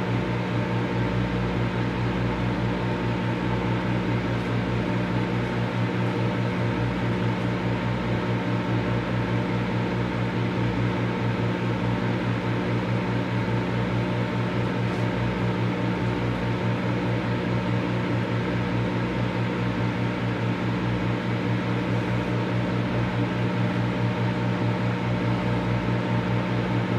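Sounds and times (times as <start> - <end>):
microwave oven humming: 0.0 - 26.9.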